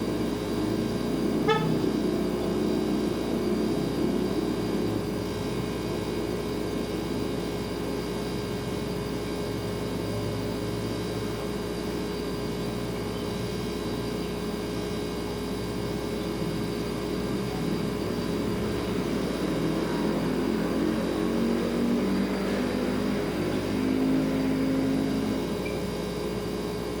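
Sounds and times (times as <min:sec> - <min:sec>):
refrigerator humming: 0:00.0 - 0:27.0.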